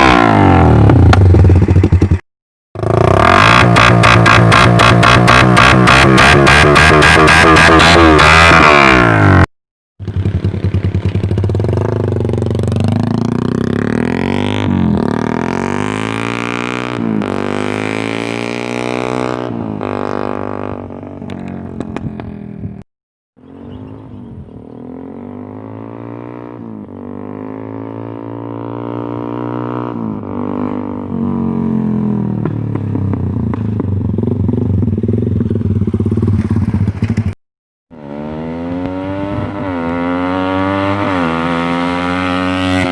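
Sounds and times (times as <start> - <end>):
motorcycle engine revving: 0.0 - 2.2, 2.8 - 22.8, 23.4 - 42.9.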